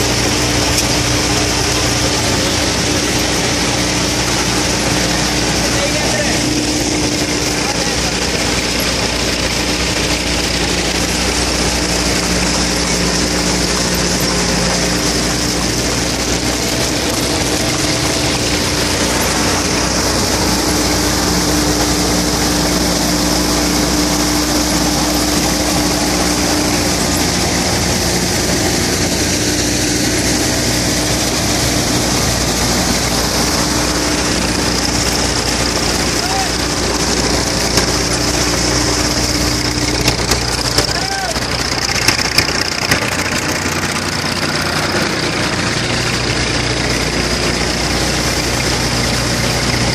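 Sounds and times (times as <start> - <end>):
thresher machine droning: 0.0 - 49.9.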